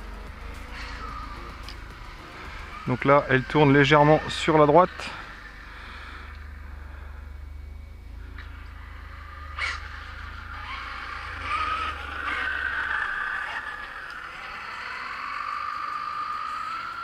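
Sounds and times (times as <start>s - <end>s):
toy car electric motor whining: 0.0s - 17.0s.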